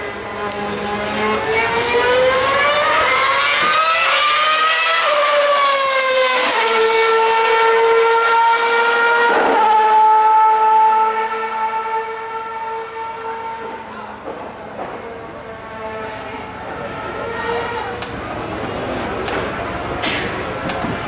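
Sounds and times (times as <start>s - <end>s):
racing car engine high revs: 0.0s - 21.0s.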